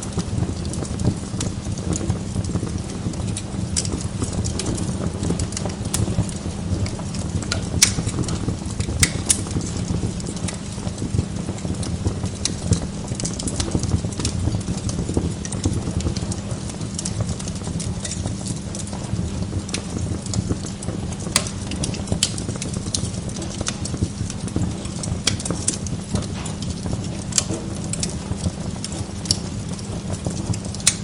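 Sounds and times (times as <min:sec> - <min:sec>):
log fire crackling: 0:00.0 - 0:31.0
sharp fire pops: 0:00.0 - 0:31.0.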